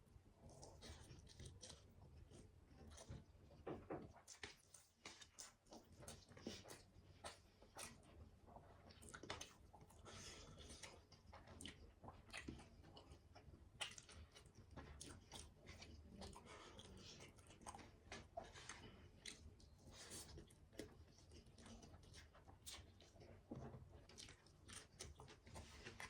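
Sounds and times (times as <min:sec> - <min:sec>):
chewing and eating: 0:00.0 - 0:26.0.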